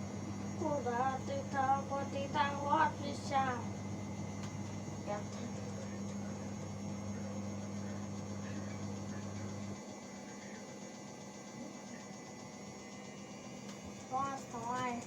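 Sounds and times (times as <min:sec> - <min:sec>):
electrical mains hum: 0:00.0 - 0:15.0
faint background hum: 0:00.0 - 0:15.0.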